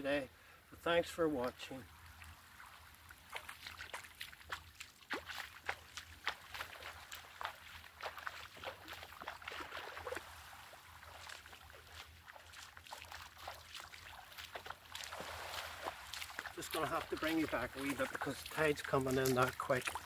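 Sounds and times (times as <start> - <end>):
small waves trickling: 1.4 - 20.0
feet wading through shallow water: 1.8 - 20.0.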